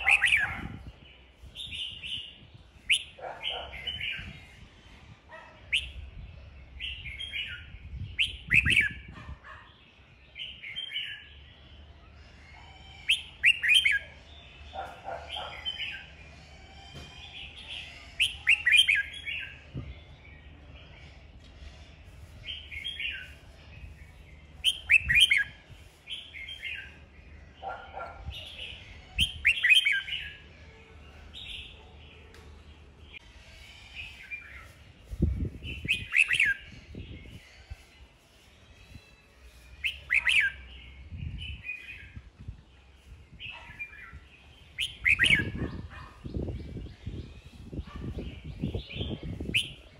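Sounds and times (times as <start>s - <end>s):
bird singing bright phrases: 0.0s - 49.9s.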